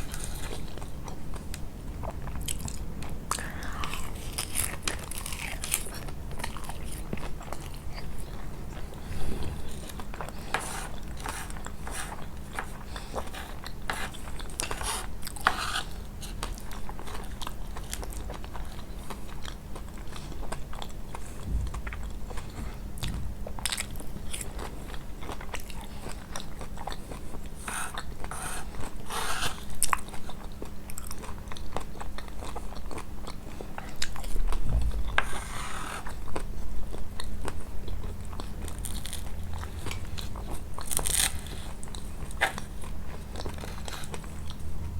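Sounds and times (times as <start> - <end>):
crackly biting and chewing: 0.0 - 44.9.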